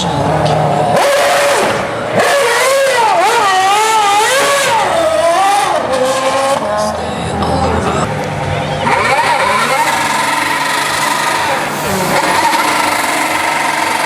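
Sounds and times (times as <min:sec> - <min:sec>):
racing car engine revving: 0:00.0 - 0:14.0.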